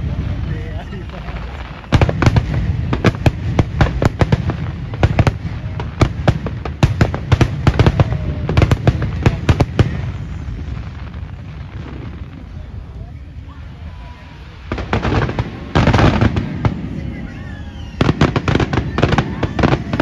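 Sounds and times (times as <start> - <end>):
continuous low rumble: 0.0 - 20.0.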